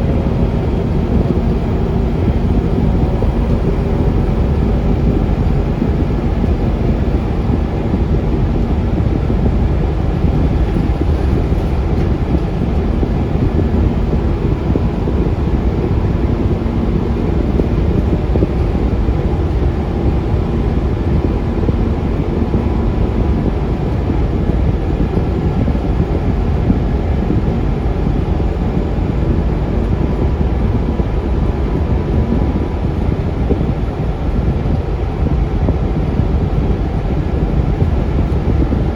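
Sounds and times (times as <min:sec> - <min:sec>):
bus diesel engine rumble: 0:00.0 - 0:38.9
road noise: 0:00.0 - 0:38.9.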